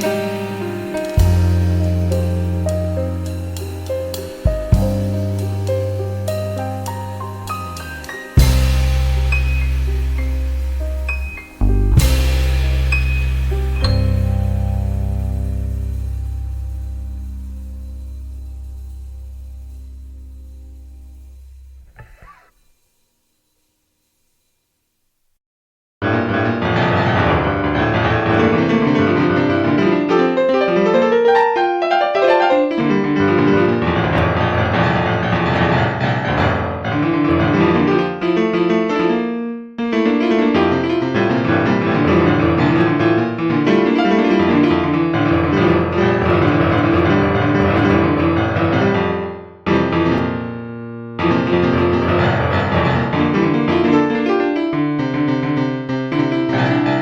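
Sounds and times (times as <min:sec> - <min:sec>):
piano music: 0:00.0 - 0:22.0, 0:26.0 - 0:57.0.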